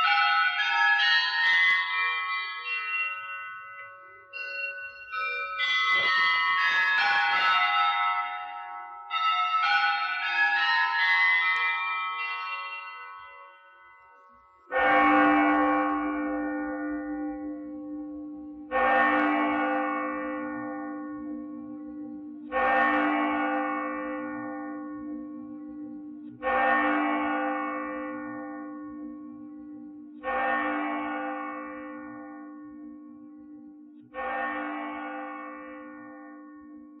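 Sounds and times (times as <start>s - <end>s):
church bell tolling: 0.0s - 37.0s.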